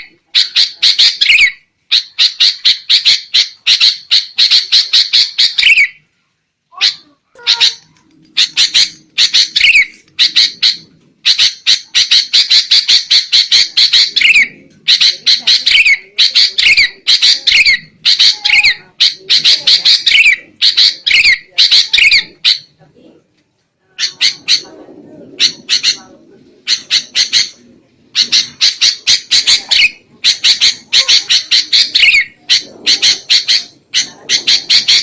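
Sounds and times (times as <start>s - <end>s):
bulbuls chattering: 0.0s - 6.1s, 6.7s - 35.0s.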